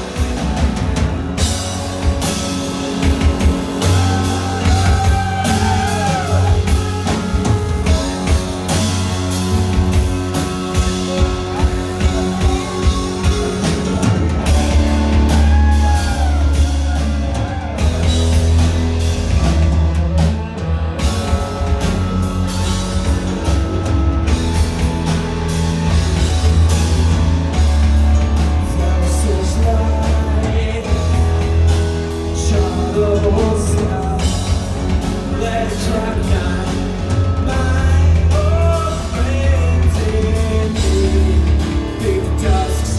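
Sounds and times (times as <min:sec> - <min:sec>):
live rock band playing: 0:00.0 - 0:42.9.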